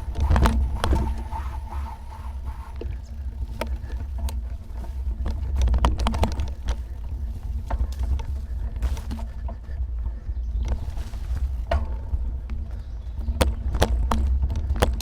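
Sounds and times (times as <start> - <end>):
bike rattling over bumps: 0.0 - 15.0
wind and road rumble: 0.0 - 15.0.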